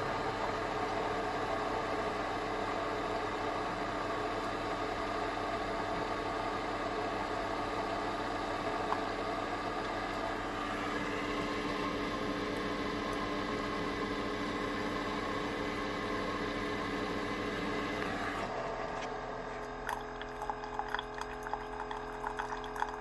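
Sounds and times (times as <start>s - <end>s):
coffee maker pump humming: 0.0s - 23.0s.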